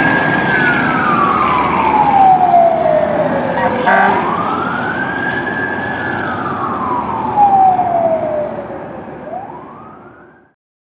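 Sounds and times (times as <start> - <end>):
fire truck siren wailing: 0.0 - 10.6.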